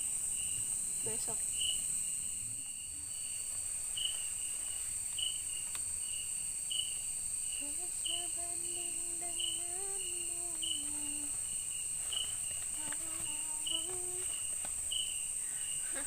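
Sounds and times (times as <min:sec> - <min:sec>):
insect chirp: 0:00.0 - 0:16.0
insects buzzing drone: 0:00.0 - 0:16.0.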